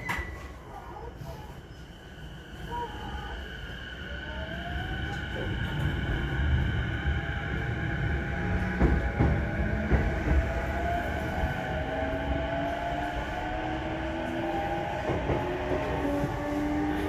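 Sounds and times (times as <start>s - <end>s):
wheels rumbling on rail: 1.0s - 17.0s.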